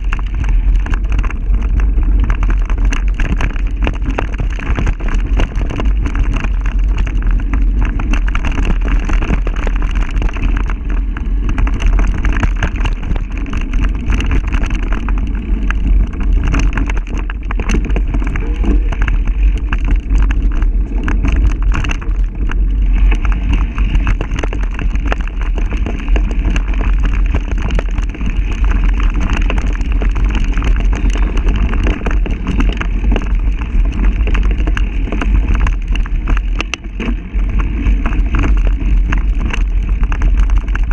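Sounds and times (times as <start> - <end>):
small rattles and knocks: 0.0 - 40.9
wind buffeting microphone: 0.0 - 40.9.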